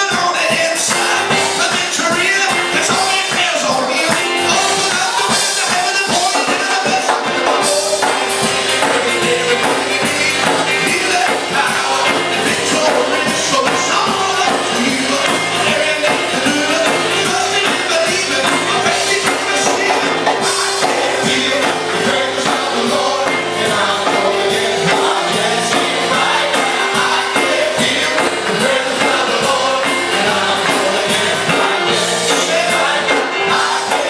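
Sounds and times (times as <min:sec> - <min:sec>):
band playing worship song: 0:00.0 - 0:34.0
person singing: 0:00.0 - 0:34.0.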